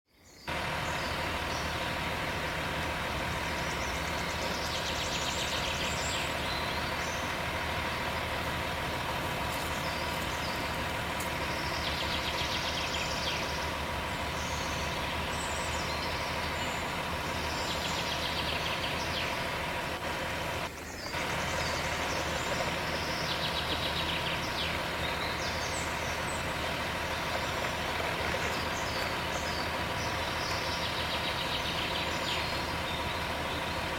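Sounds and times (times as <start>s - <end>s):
truck engine running: 0.2s - 33.9s.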